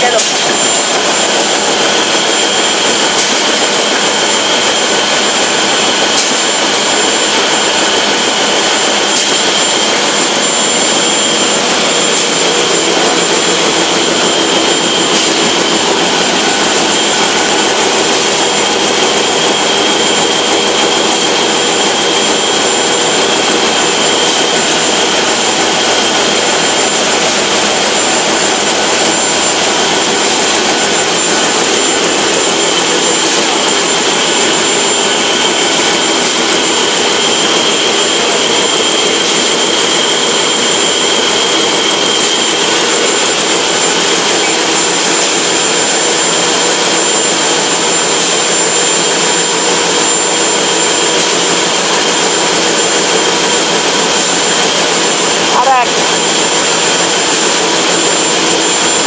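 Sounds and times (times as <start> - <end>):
high steady machine whines: 0.0 - 59.0
production line machine noise: 0.0 - 59.0.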